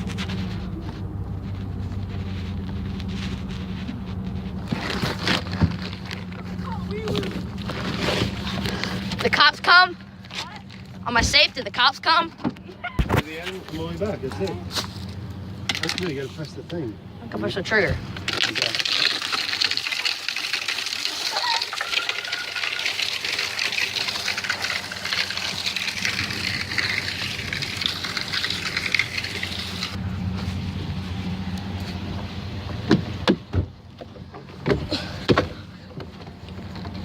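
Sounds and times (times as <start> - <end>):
low engine rumble: 0.0 - 19.0, 21.2 - 37.0.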